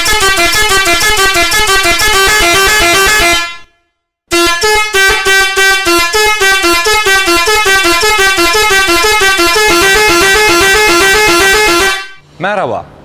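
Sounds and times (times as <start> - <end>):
warbling two-tone air horn: 0.0 - 12.2.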